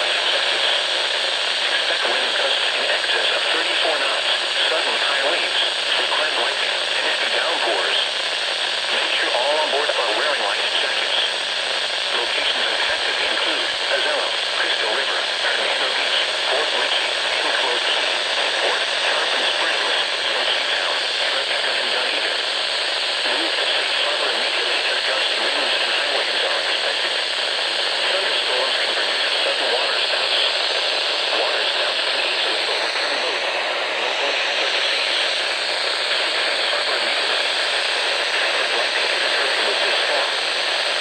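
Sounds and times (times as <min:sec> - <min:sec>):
radio static hiss: 0:00.0 - 0:41.0.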